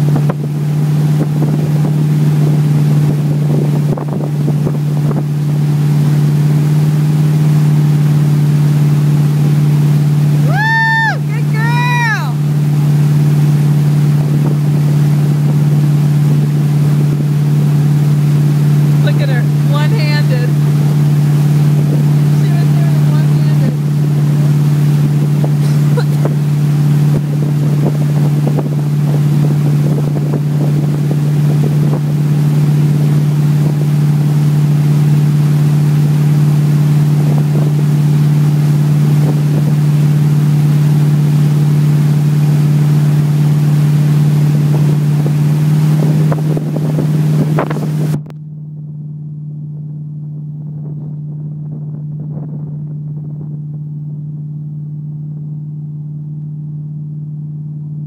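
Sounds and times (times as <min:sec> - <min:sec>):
churning wake water: 0:00.0 - 0:58.0
motorboat engine droning: 0:00.0 - 0:58.0.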